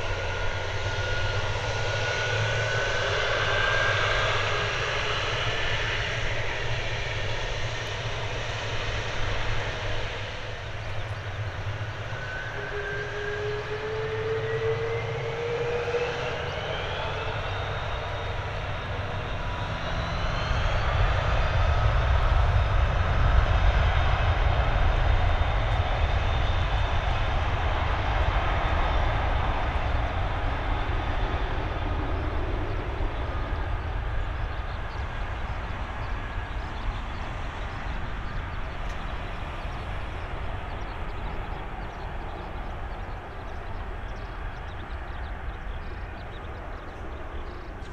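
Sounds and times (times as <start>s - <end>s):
jet engines spooling up: 0.0s - 47.9s.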